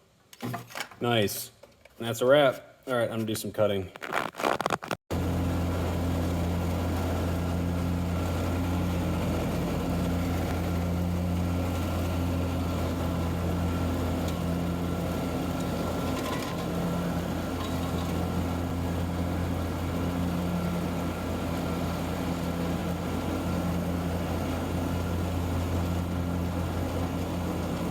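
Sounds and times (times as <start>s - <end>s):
mower engine running: 5.1s - 27.9s.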